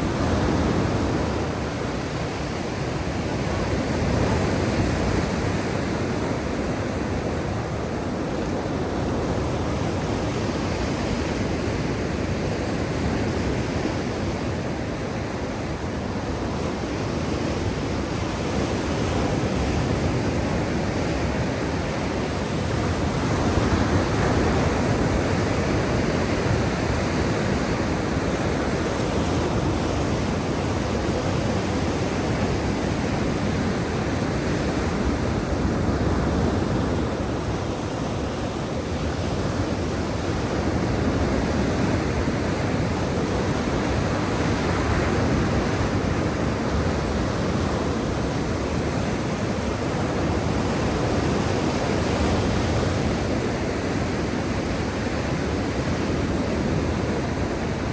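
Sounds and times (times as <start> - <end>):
waves washing on shore: 0.0 - 57.9.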